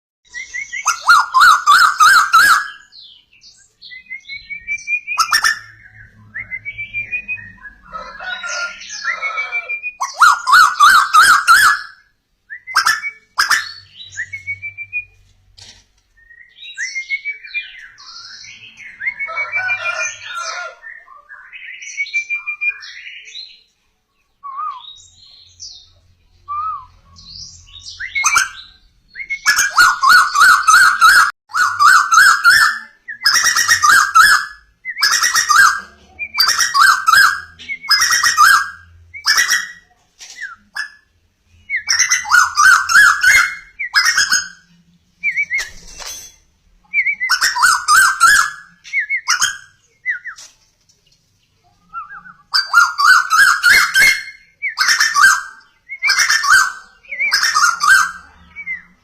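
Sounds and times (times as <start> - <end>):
bird singing: 0.3 - 15.2, 16.1 - 59.0.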